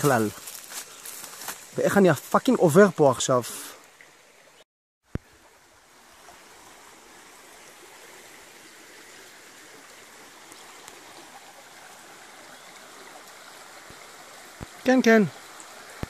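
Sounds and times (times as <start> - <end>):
stream of running water: 0.0 - 16.0.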